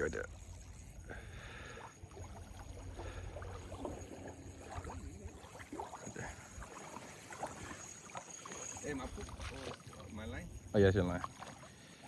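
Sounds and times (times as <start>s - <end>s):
water lapping and splashing: 0.0s - 12.0s.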